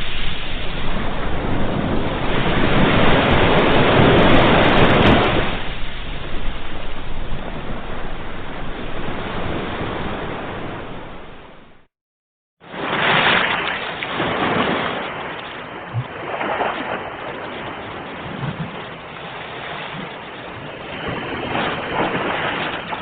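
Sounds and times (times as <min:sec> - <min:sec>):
ocean waves breaking on shore: 0:00.0 - 0:11.9, 0:12.6 - 0:23.0.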